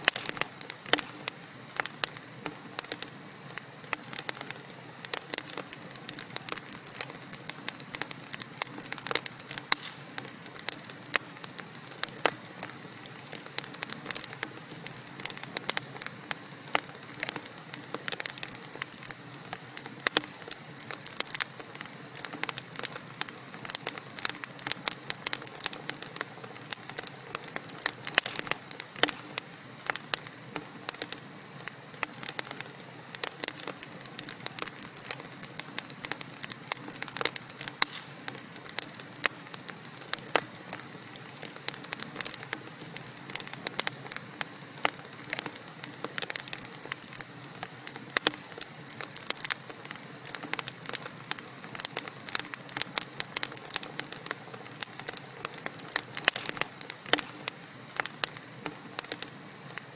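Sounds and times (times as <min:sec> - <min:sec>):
fire hissing: 0:00.0 - 0:59.9
wood fire crackling and popping: 0:00.0 - 0:59.9.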